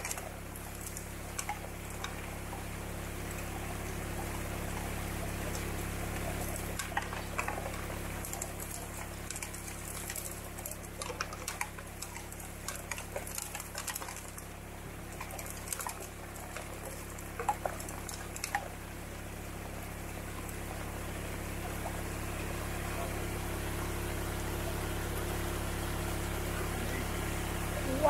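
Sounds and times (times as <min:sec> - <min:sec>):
gravel and water sloshing in pan: 0:00.0 - 0:23.4
small splashes: 0:00.0 - 0:23.8.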